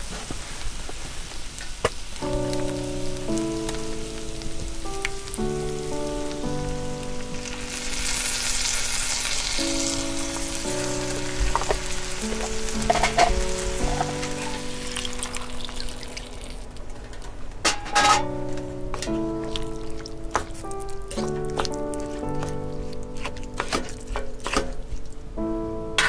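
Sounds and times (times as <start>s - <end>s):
food sizzling in frying pan: 0.0s - 16.8s, 18.9s - 24.9s
slow sustained chords music: 2.2s - 26.0s.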